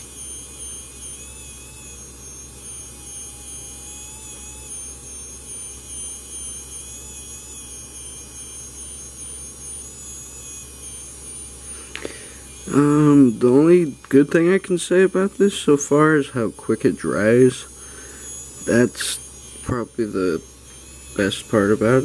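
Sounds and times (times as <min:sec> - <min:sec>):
small electric motor whirring: 0:00.0 - 0:22.0.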